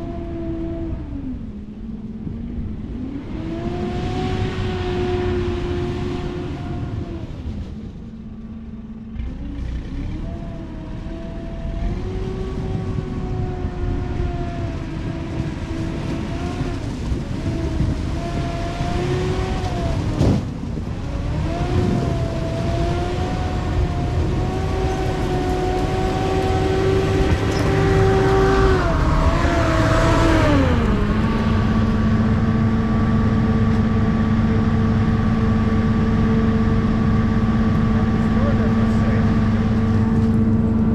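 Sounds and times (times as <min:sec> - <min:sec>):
vehicle engine running hard: 0:00.0 - 0:40.9.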